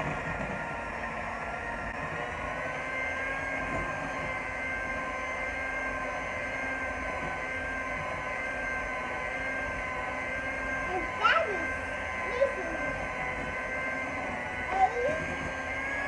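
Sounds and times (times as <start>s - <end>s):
electric hand mixer whirring: 0.0s - 16.0s.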